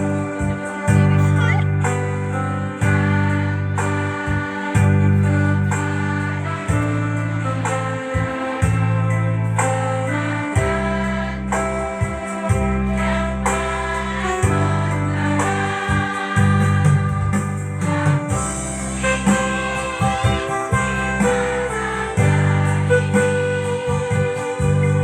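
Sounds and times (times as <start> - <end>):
heavy bass line: 0.0 - 25.0
instrumental accompaniment: 0.0 - 25.0
women's choir singing: 0.0 - 25.0.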